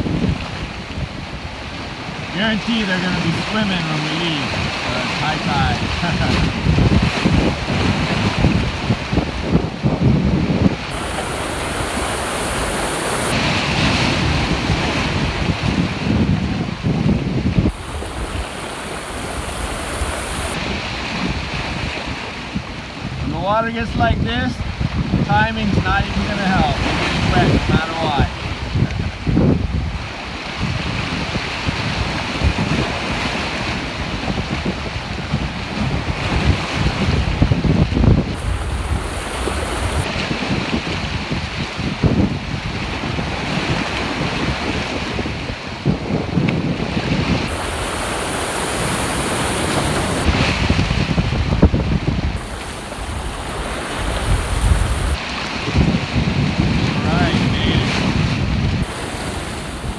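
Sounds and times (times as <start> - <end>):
surf washing over rocks: 0.0 - 59.9
wind buffeting microphone: 0.0 - 59.9.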